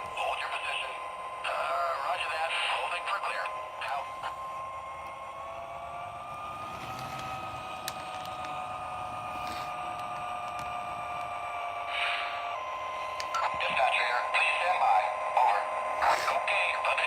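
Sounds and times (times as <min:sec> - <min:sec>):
diesel engine sound through speaker: 0:00.0 - 0:17.0.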